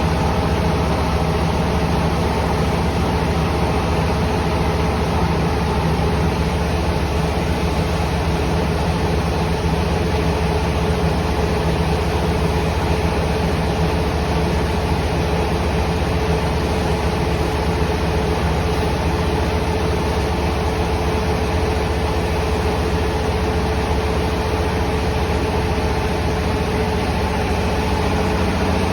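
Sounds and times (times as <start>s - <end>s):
milling machinery hum: 0.0s - 28.9s.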